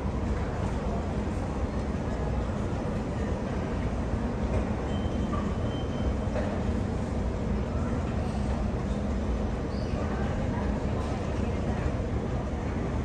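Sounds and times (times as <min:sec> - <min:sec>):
low rumble of metro station: 0:00.0 - 0:13.0.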